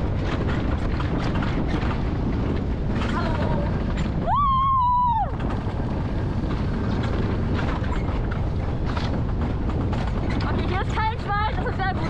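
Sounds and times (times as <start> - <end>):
coaster sled rumbling on rail: 0.0 - 12.0
wind on microphone: 0.0 - 12.0.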